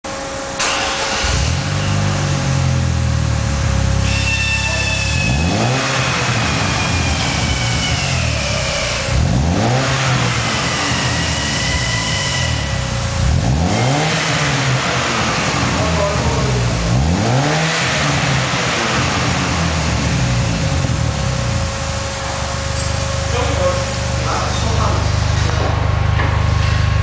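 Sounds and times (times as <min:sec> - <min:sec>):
car engine idling and revving: 0:00.1 - 0:27.0.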